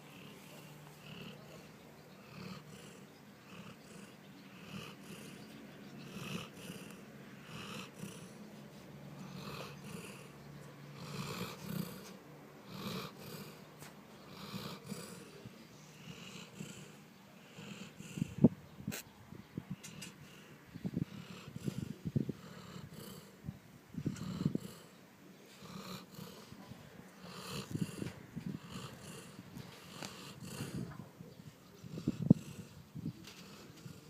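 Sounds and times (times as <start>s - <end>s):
pet snoring: 0.0s - 8.4s, 9.2s - 13.6s, 14.2s - 18.5s, 19.8s - 23.4s, 24.0s - 34.0s.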